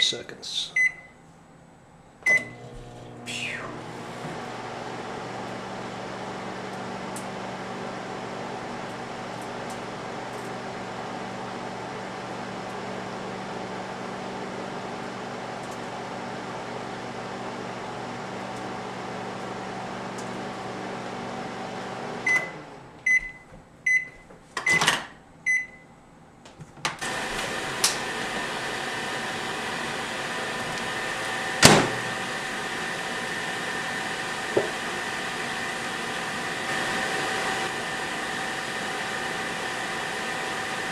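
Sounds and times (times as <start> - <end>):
microwave oven humming: 0.8 - 24.8, 27.0 - 40.9.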